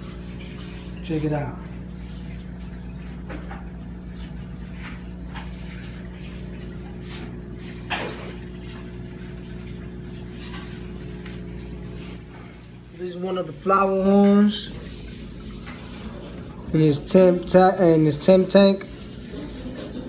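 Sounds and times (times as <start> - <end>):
aquarium pump humming: 0.0 - 20.0
light water sounds: 0.0 - 20.0.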